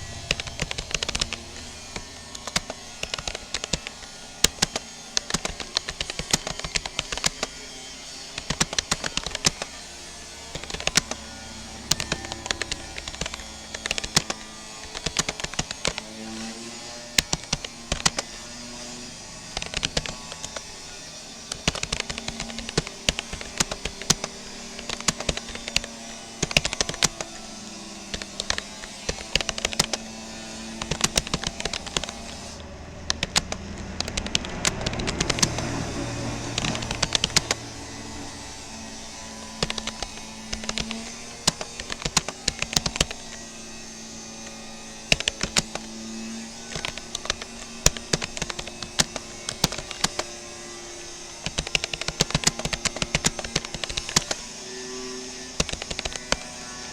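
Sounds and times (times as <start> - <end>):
steady low hum: 0.0 - 55.6
fast keyboard typing: 0.0 - 56.9.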